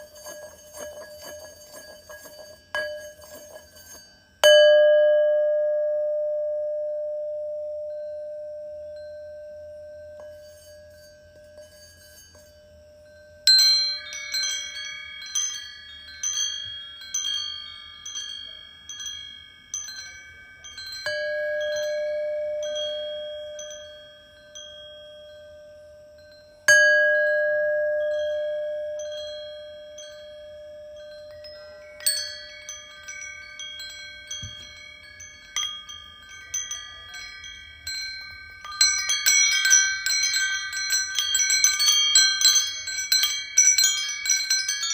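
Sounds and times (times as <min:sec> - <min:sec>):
bright metal chimes: 0:00.0 - 0:44.9
singing bowl hum: 0:00.0 - 0:44.9.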